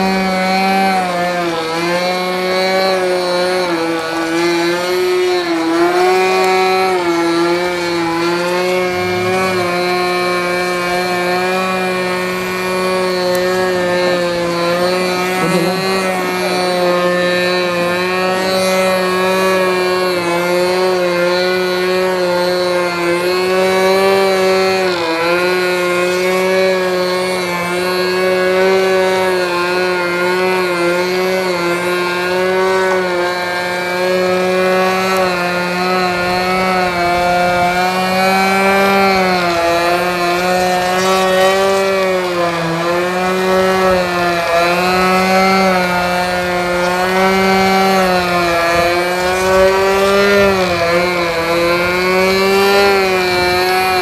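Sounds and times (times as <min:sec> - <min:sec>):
model airplane motor and propeller: 0:00.0 - 0:54.0.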